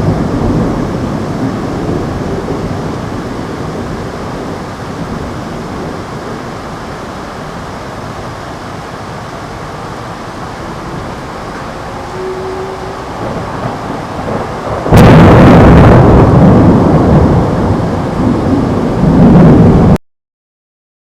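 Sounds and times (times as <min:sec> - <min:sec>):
thunder clap and rumbling: 0:00.0 - 0:20.0
thunderstorm hiss: 0:00.0 - 0:20.0.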